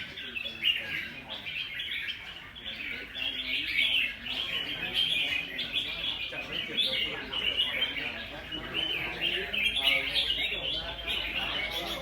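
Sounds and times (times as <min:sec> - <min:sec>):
bulbuls singing and chattering: 0:00.0 - 0:12.0.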